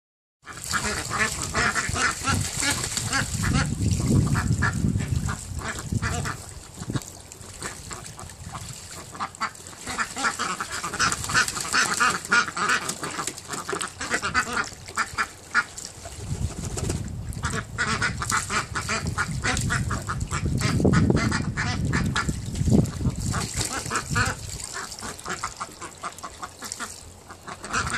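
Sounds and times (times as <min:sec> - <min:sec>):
ducks quacking: 0:00.5 - 0:15.8, 0:17.4 - 0:27.9
water splashing: 0:00.5 - 0:27.9.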